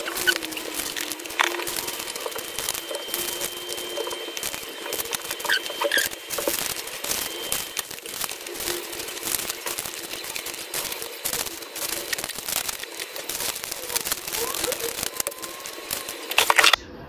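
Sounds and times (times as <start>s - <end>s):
plastic bags of beads crinkling: 0.0s - 16.8s.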